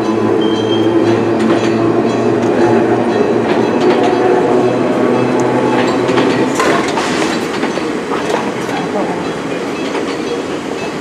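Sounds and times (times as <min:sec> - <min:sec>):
train humming on track: 0:00.0 - 0:11.0
wheels clicking over rail joints: 0:00.0 - 0:11.0.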